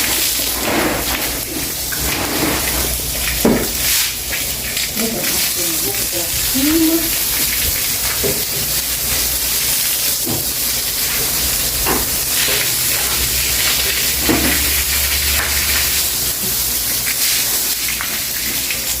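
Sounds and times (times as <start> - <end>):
broom scrubbing wet floor: 0.0 - 19.0.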